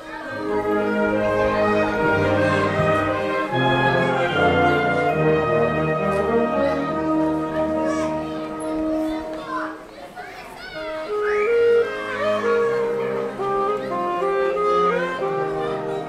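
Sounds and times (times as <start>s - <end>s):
wind band sustained chords: 0.0s - 9.9s, 10.8s - 16.0s.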